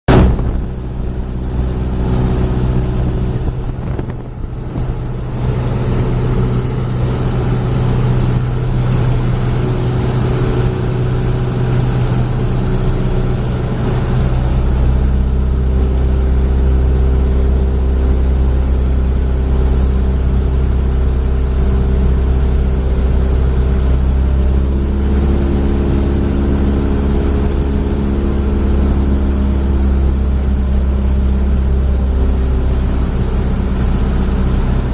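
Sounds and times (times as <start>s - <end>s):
aircraft engines droning: 0.1s - 34.9s.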